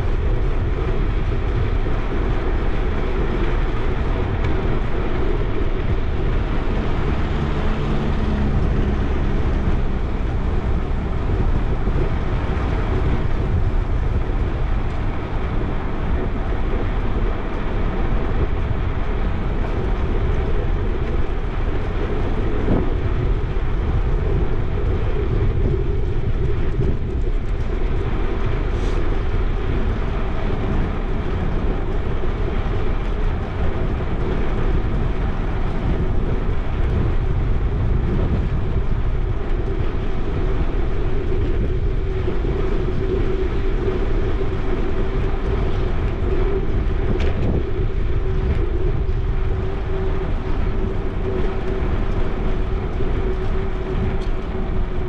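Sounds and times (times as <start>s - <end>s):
bicycle rolling on pavement: 0.0s - 55.0s
low hum: 0.0s - 55.0s
wind rushing on microphone: 0.0s - 55.0s.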